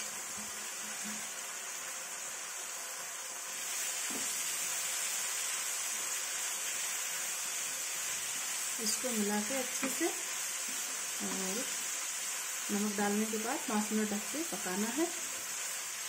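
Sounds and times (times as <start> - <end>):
spinach sizzling in a pan: 0.0 - 16.0.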